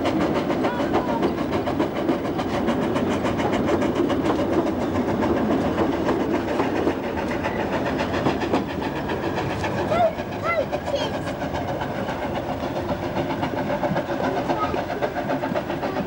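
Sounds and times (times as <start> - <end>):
train wheels rumbling on rail: 0.0 - 16.0
clatter over rail joints: 0.1 - 16.0.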